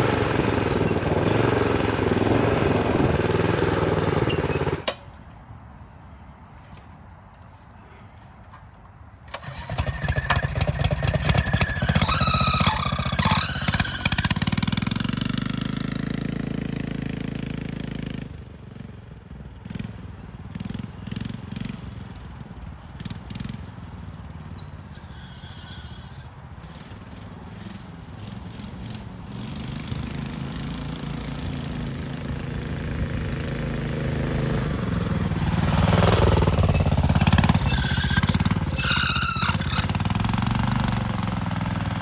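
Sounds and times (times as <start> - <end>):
minibike engine: 0.0 - 5.4, 8.1 - 42.0.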